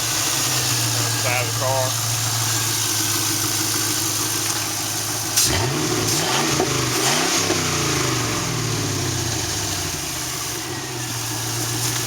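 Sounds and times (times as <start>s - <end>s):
car engine idling: 0.0s - 12.0s
engine revving on throttle blips: 0.0s - 12.0s.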